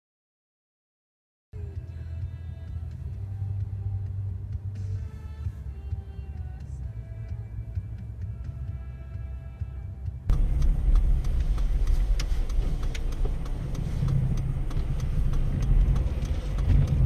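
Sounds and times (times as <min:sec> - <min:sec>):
car engine and road noise: 0:01.6 - 0:17.0
faint music: 0:01.6 - 0:17.0.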